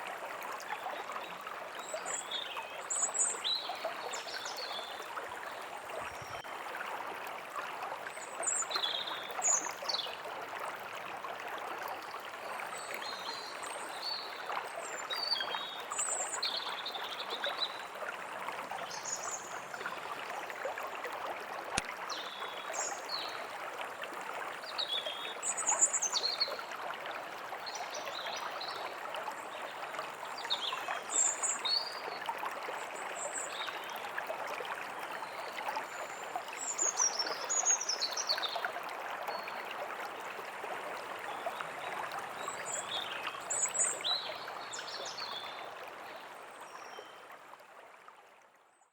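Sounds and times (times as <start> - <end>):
trickling stream: 0.0 - 48.9.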